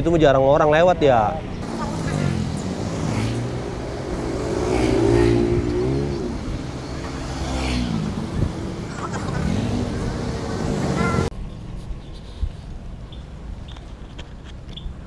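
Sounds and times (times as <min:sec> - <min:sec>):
vehicles passing by: 0:00.0 - 0:15.0.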